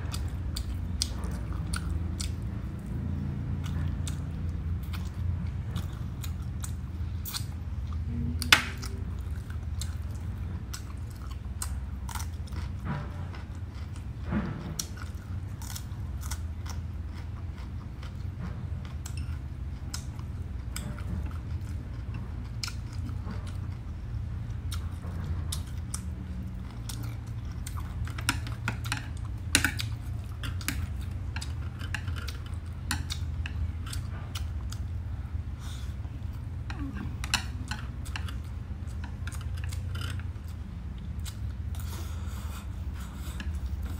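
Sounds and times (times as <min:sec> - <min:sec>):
chewing and crunching: 0:00.0 - 0:43.9
steady low hum: 0:00.0 - 0:43.9.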